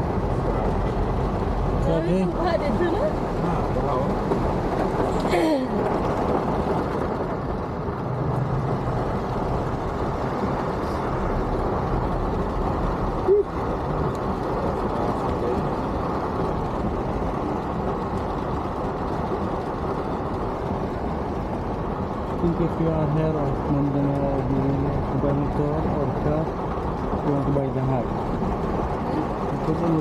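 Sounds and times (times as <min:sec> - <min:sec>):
traffic noise inside car: 0:00.0 - 0:30.0.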